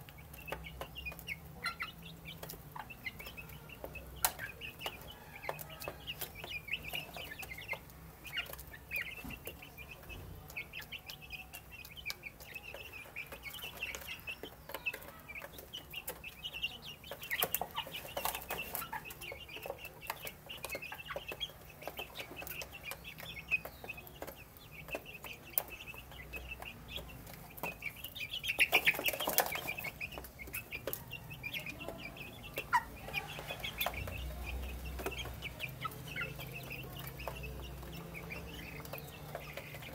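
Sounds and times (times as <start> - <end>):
beaks pecking on wood: 0.0 - 39.9
chicks peeping and clucking: 0.0 - 39.9.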